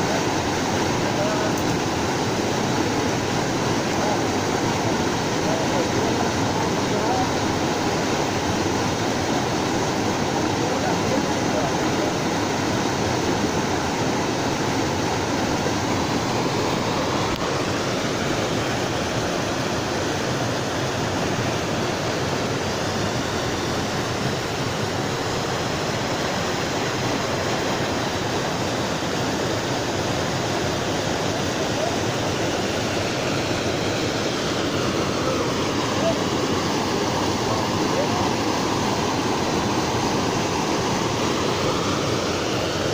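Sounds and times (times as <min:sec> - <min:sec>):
water rushing down a cascade: 0:00.0 - 0:42.9.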